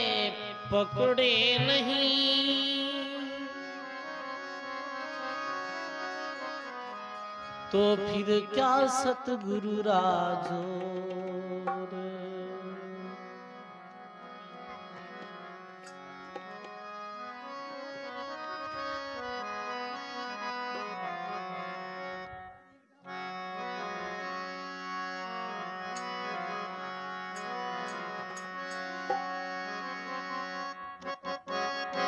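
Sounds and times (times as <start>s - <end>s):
harmonium playing devotional music: 0.0s - 32.0s.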